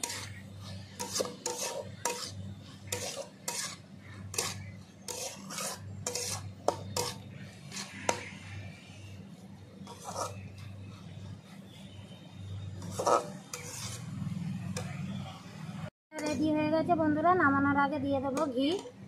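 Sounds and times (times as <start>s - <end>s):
metal spatula scraping a pan: 0.0s - 15.2s, 16.1s - 16.6s, 18.3s - 19.0s.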